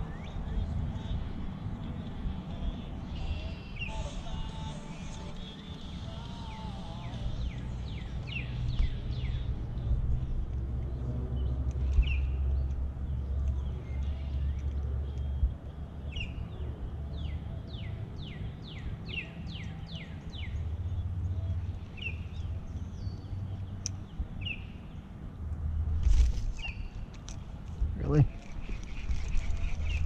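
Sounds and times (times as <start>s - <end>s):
steady low rumble: 0.0s - 19.3s, 20.1s - 30.0s
songbird singing: 0.0s - 30.0s.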